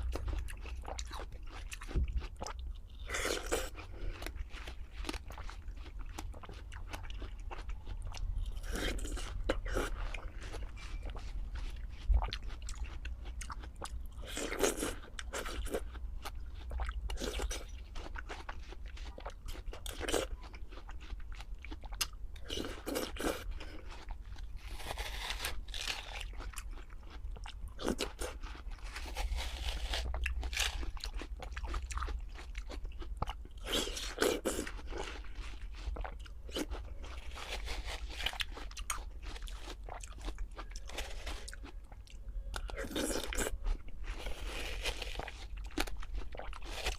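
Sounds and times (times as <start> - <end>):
crunchy bites and chewing: 0.0 - 46.9.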